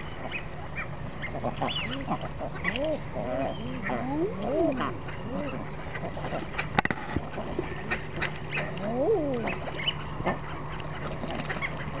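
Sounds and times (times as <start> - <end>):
eider duck cooing: 0.2 - 12.0.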